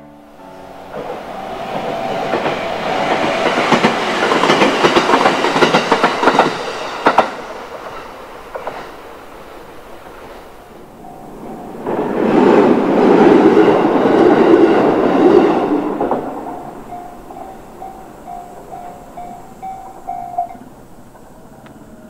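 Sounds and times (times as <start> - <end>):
train wheels clacking on rails: 0.7 - 22.0.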